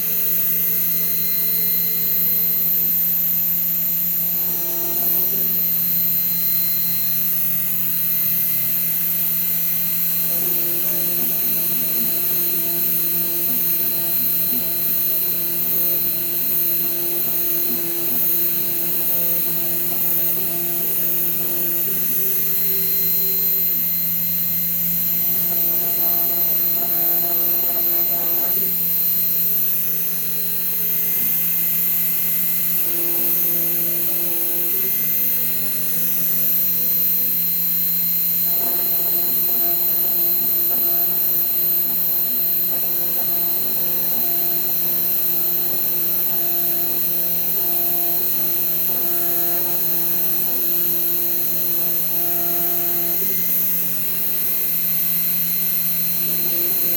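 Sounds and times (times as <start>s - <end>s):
cnc router hum: 0.0s - 56.9s
stepper motor whines: 0.0s - 56.9s.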